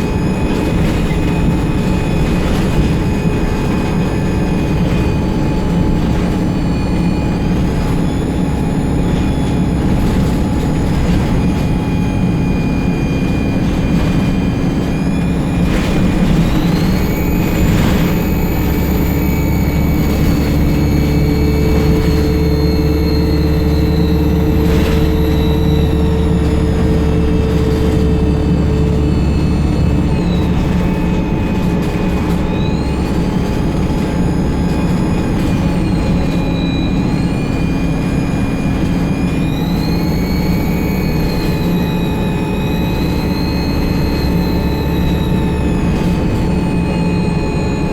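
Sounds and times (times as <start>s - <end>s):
bus diesel engine: 0.0s - 47.9s
high-pitched turbocharger whine: 0.0s - 47.9s.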